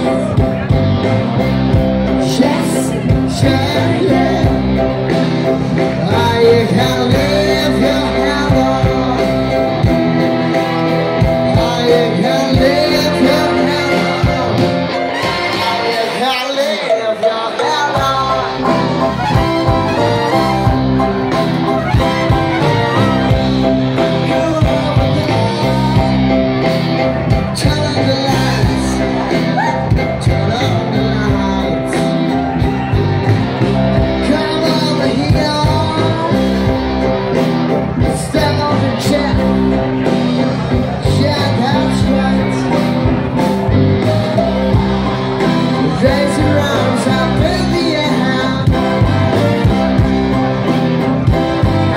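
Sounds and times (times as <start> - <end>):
electric guitar: 0.0 - 51.9
live band playing party music: 0.0 - 51.9
person singing: 0.0 - 51.9.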